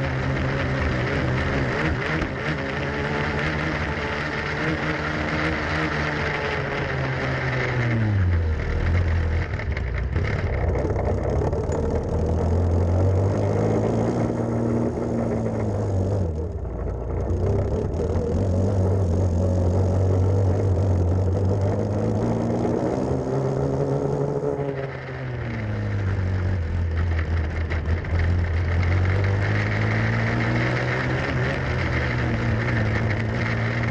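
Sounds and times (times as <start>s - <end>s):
kart engine at high revs: 0.0s - 33.9s.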